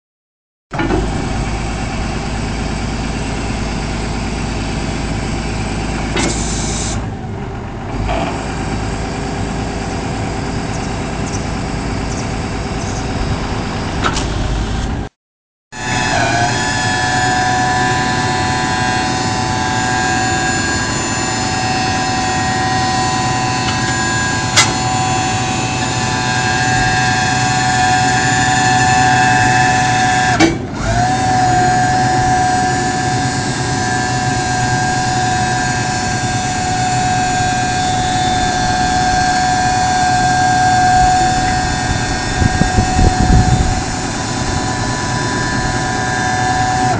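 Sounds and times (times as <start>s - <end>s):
forklift engine running: 0.7s - 15.1s, 15.8s - 46.9s
hydraulic whine: 0.7s - 15.1s, 15.7s - 46.9s.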